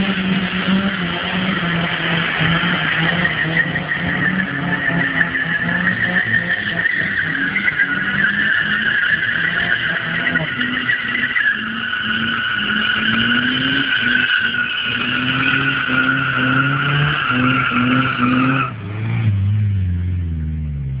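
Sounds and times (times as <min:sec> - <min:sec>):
car engine revving: 0:00.0 - 0:21.0
tyres squealing: 0:01.5 - 0:18.7.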